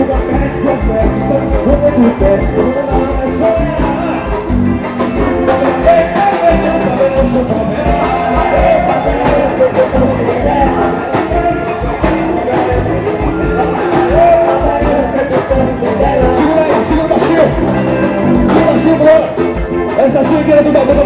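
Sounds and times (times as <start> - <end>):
drum and bass beat music: 0.0 - 21.0.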